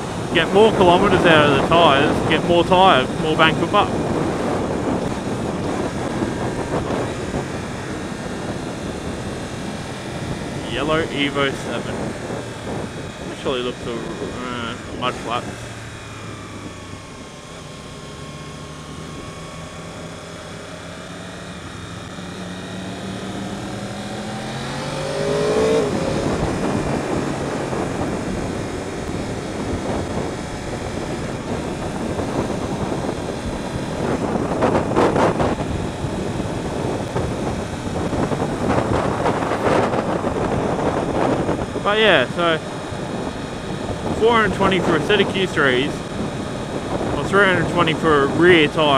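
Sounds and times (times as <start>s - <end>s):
motorcycle engine revving: 0.0s - 48.9s
wind rush over microphone: 0.0s - 48.9s.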